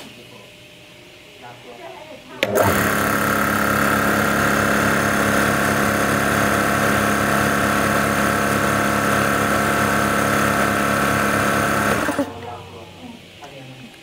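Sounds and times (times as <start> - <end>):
compressor humming and whining: 0.0 - 14.0.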